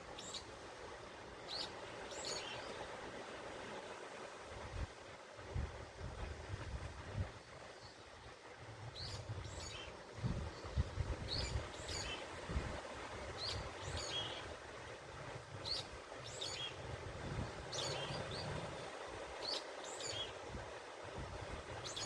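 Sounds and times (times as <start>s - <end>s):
outdoor hiss: 0.0s - 22.0s.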